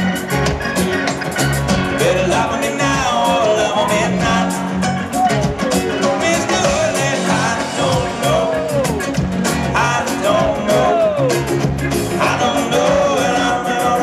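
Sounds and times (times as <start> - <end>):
live band playing: 0.0 - 14.0
person singing: 1.9 - 14.0.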